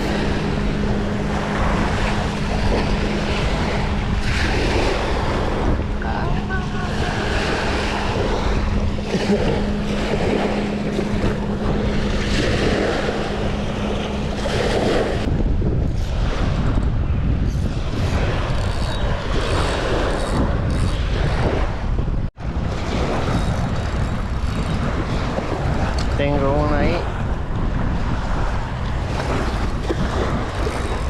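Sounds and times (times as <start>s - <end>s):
steady hum: 0.0s - 31.0s
waves washing: 0.0s - 31.0s
wind buffeting microphone: 0.0s - 31.0s.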